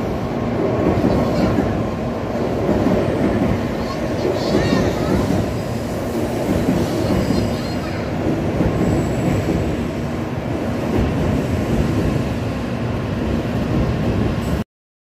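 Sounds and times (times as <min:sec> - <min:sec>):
train passing with low rushing: 0:00.0 - 0:14.6.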